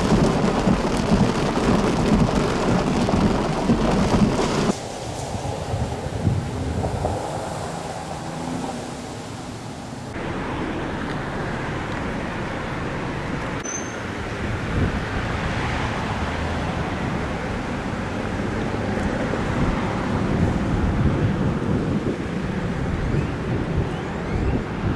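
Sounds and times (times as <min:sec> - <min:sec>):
thunderstorm wind: 0:00.0 - 0:09.6, 0:14.2 - 0:24.9
heavy rain: 0:00.0 - 0:24.9.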